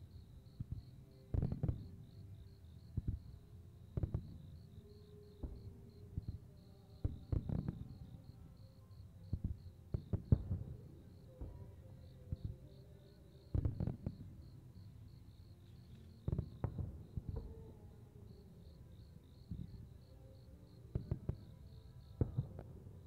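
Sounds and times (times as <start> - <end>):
insects chirping: 0.0 - 22.6.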